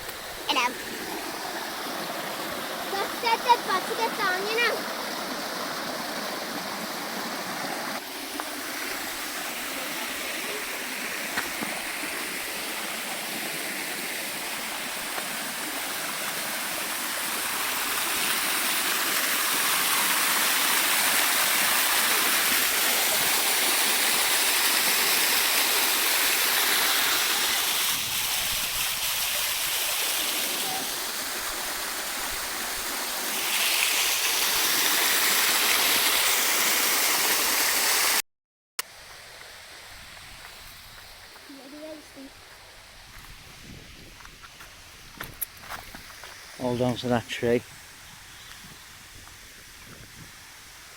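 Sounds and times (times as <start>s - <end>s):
waterfall and stream rushing: 0.0s - 38.2s, 38.8s - 50.9s.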